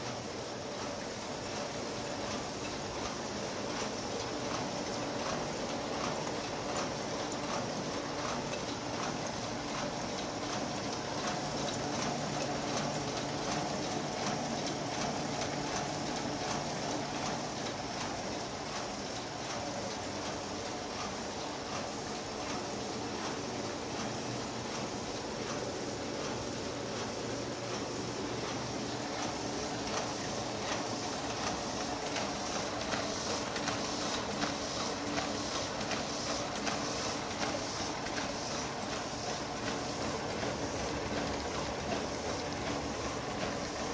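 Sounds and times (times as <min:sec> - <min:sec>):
printing press clacking: 0:00.0 - 0:43.9
printing press whirring: 0:00.0 - 0:43.9.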